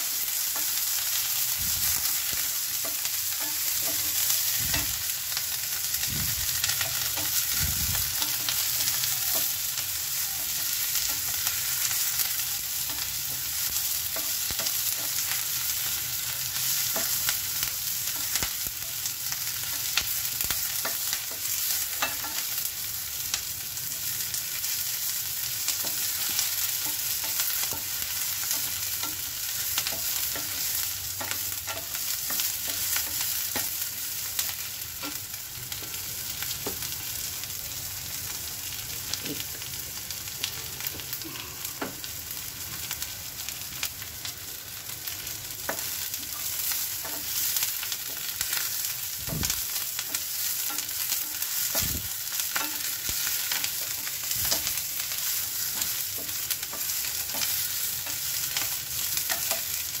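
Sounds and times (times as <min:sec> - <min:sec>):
onions sizzling in hot oil: 0:00.0 - 1:00.0.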